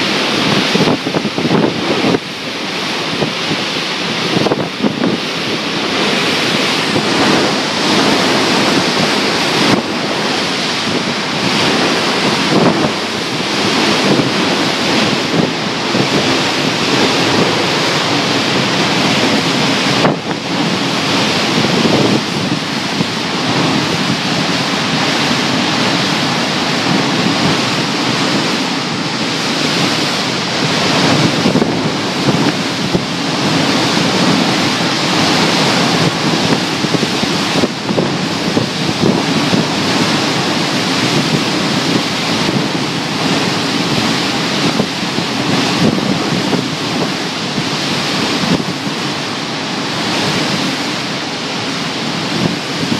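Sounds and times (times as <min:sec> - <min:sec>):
driving rain: 0:00.0 - 0:52.9
wind buffeting microphone: 0:00.0 - 0:52.9
wind gusting through trees: 0:00.0 - 0:52.9.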